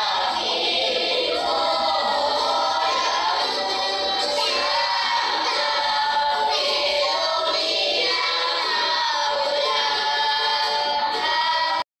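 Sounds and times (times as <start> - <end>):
choral singing with music: 0.0 - 11.9.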